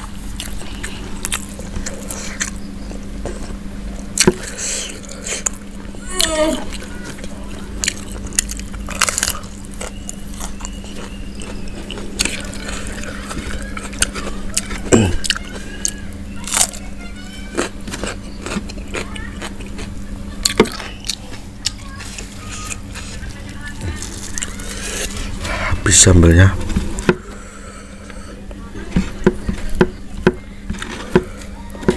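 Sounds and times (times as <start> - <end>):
person crunching and chewing food: 0.0 - 31.9
steady low hum: 0.0 - 31.9.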